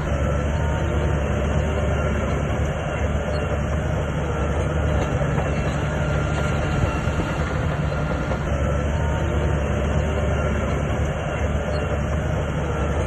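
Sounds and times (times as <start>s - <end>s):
diesel engine rumble: 0.0s - 13.0s
steel tracks clanking: 0.0s - 13.0s.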